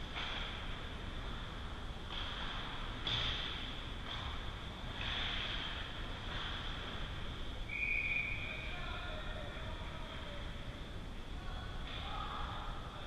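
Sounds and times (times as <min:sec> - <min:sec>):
high hiss of rink ambience: 0:00.0 - 0:13.0.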